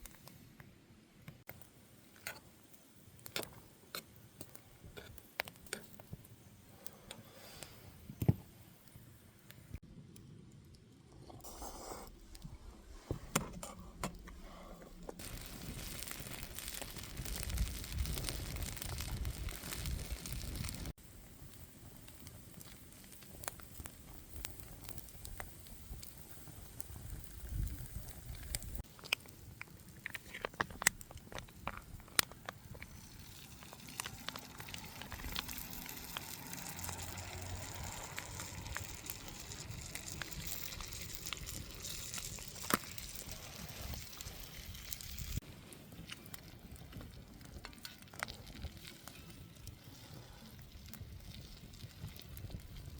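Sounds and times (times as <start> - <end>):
wood fire crackling: 0.0 - 52.9
fire hissing: 1.9 - 9.8, 11.2 - 52.9.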